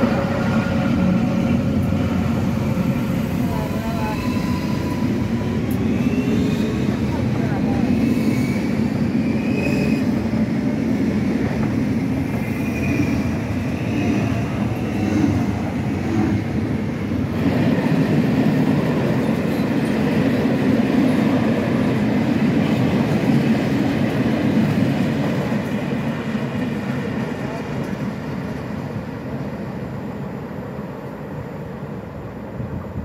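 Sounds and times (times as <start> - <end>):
steel wheels on rail: 0.0 - 30.0.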